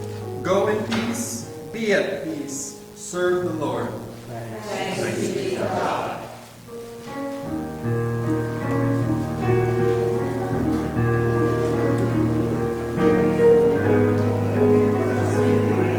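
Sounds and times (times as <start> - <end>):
slow piano chords: 0.0 - 15.9.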